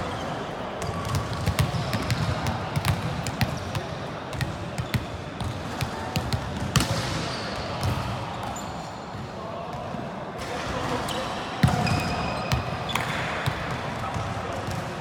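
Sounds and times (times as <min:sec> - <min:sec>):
players' voices echoing: 0:00.0 - 0:15.0.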